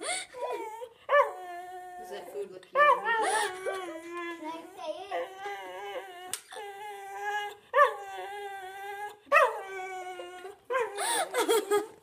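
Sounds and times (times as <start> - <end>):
dog howling: 0.5 - 11.0.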